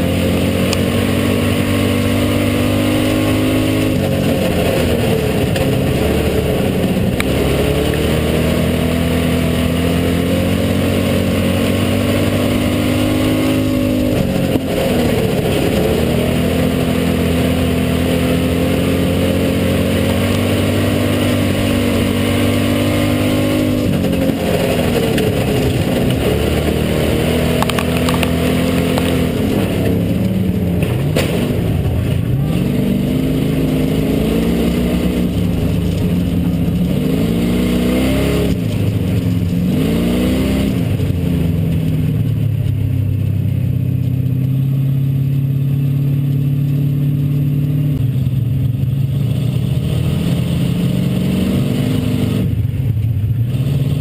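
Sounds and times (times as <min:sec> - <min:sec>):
race car engine revving: 0:00.0 - 0:42.5, 0:49.0 - 0:52.7.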